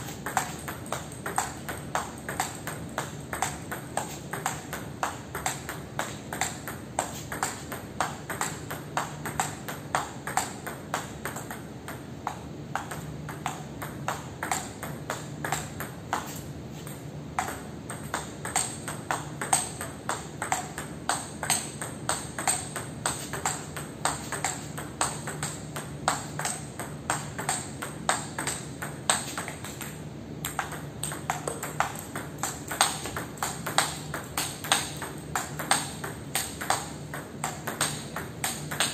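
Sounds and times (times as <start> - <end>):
ping-pong ball on paddle and table: 0.0 - 38.9.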